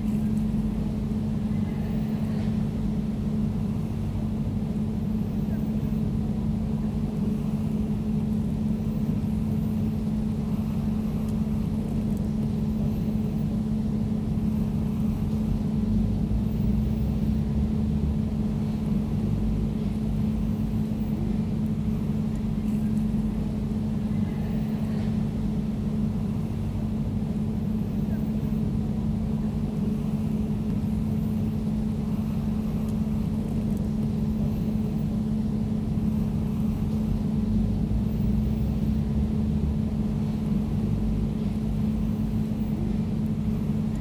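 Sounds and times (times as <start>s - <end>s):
air conditioner running: 0.0s - 44.0s.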